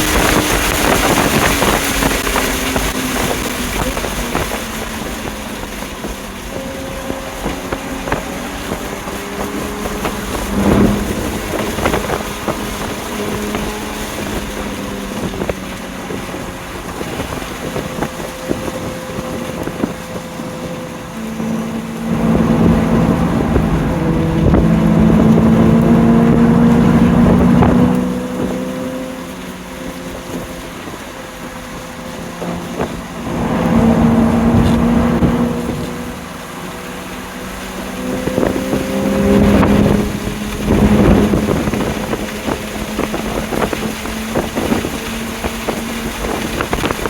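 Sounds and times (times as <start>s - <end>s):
car engine accelerating: 0.0s - 47.0s
wind and road noise: 0.0s - 47.0s.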